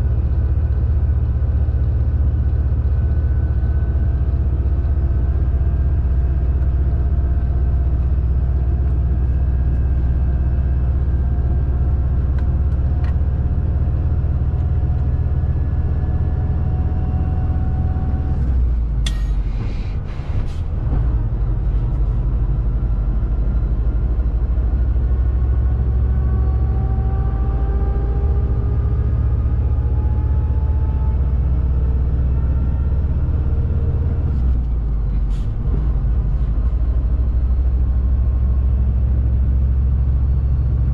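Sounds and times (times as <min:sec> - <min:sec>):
road noise: 0:00.0 - 0:40.9
truck diesel engine drone: 0:00.0 - 0:40.9.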